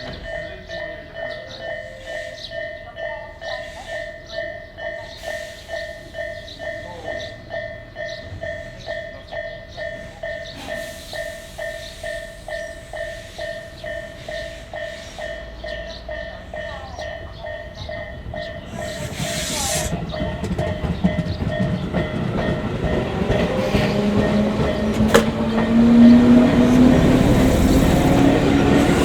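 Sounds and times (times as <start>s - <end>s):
level crossing warning bell: 0.0s - 29.0s
train running: 0.0s - 29.0s.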